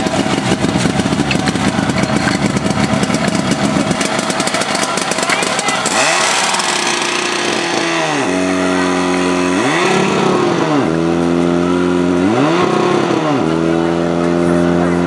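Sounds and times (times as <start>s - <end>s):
pump engine running hard: 0.0s - 15.0s.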